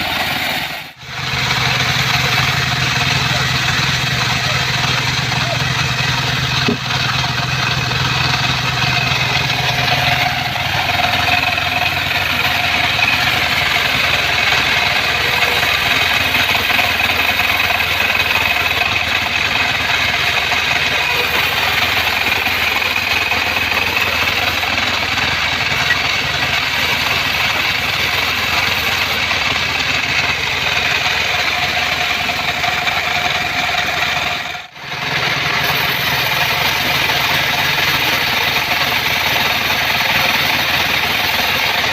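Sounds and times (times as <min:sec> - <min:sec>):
high steady saw whine: 0:00.0 - 0:41.9
sawmill engine drone: 0:00.0 - 0:41.9.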